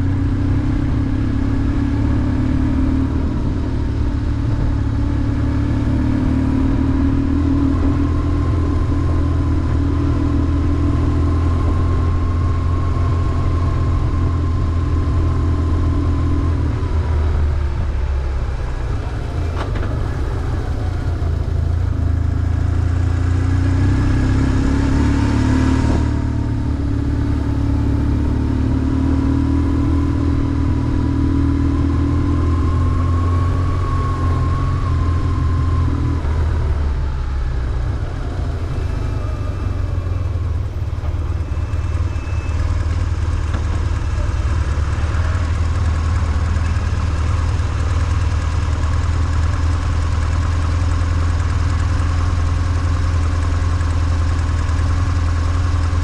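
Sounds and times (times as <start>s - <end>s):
city traffic: 0.0s - 56.0s.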